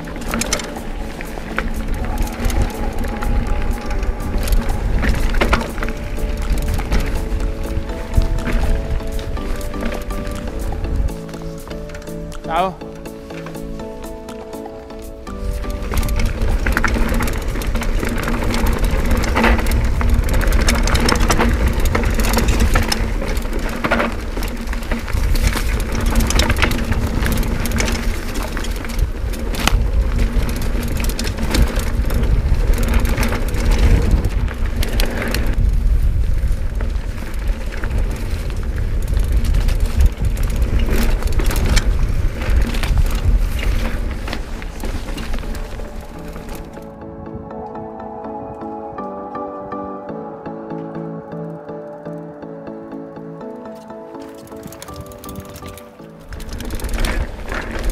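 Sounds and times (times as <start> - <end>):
wind rumble on microphone: 0.0 - 12.4, 15.2 - 49.3, 54.4 - 57.9
bike tyres rattling over rocks: 0.0 - 47.3, 53.4 - 57.9.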